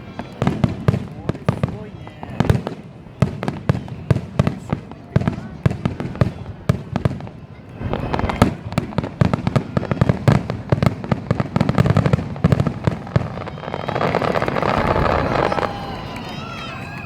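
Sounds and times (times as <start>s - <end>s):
fireworks bursts with crackling: 0.0s - 17.0s.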